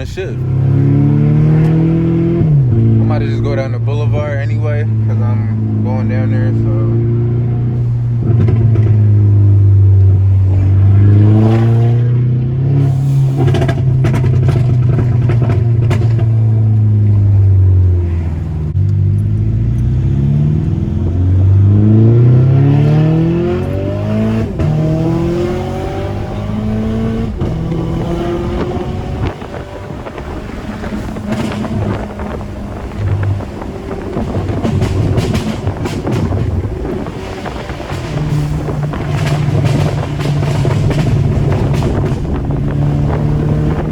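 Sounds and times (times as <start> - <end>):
exhaust crackles and pops: 0.0 - 20.0, 20.6 - 43.9
car engine accelerating hard: 0.0 - 43.9.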